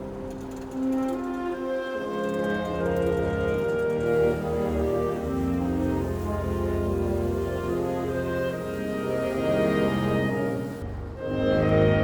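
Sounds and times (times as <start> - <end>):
orchestral string chords: 0.0 - 12.0.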